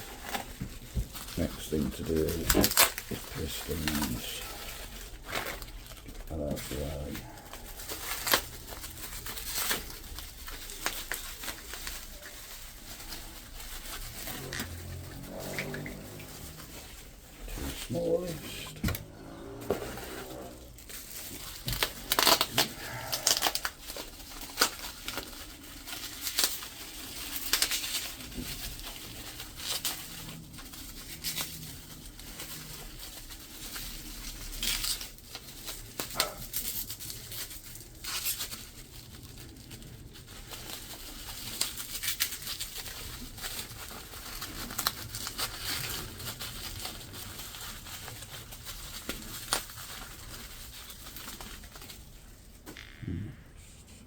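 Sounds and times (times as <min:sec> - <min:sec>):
plastic packaging crinkling and tearing: 0:00.0 - 0:53.6.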